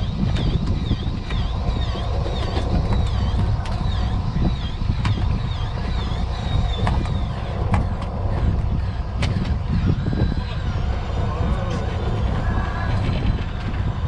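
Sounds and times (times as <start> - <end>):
boat engine low rumble: 0.0 - 14.0
high wavering whine: 0.0 - 14.0.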